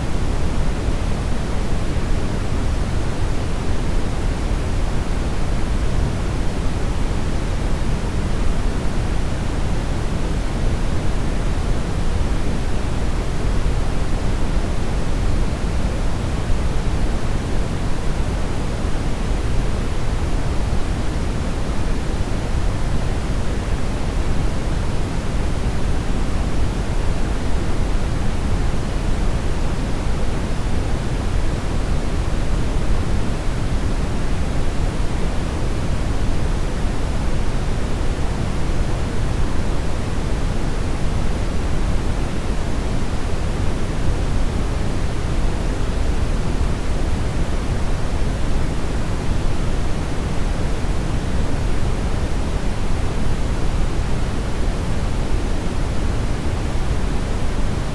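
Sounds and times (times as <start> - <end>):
brown noise hiss: 0.0 - 57.9.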